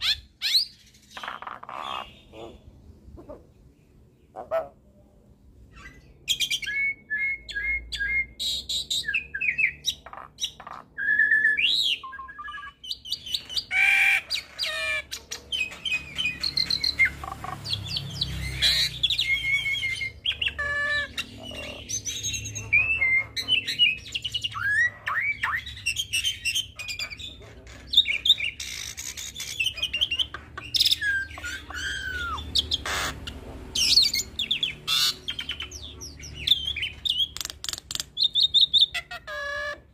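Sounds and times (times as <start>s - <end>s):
starling singing: 0.0s - 4.8s, 5.6s - 39.9s.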